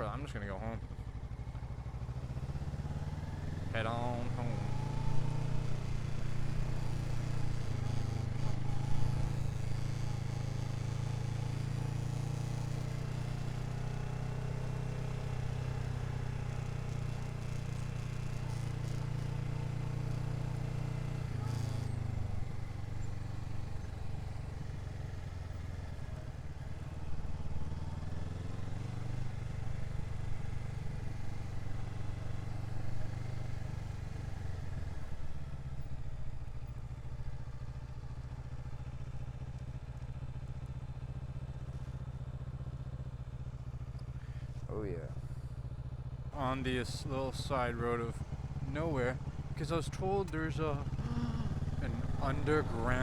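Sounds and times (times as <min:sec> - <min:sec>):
motorcycle engine running: 0:00.7 - 0:53.0.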